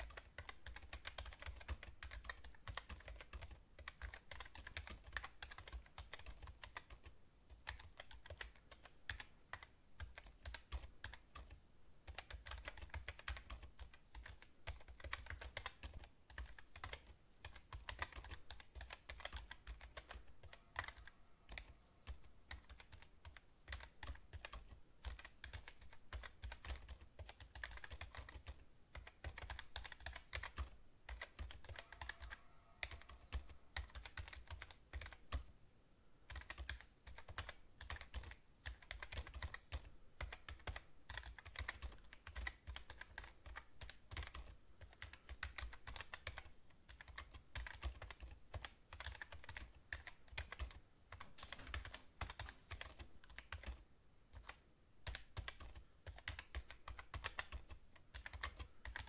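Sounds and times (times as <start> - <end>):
fast typing on keyboard: 0.0 - 35.5, 36.2 - 59.0.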